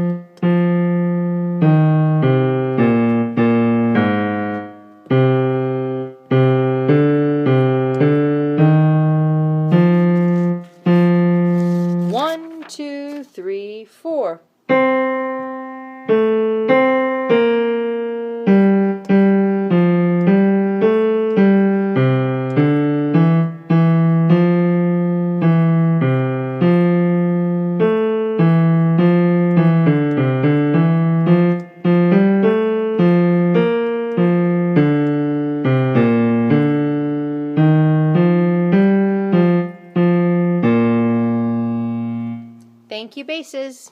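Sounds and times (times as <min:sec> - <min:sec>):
piano chords: 0:00.0 - 0:13.3, 0:14.6 - 0:43.0.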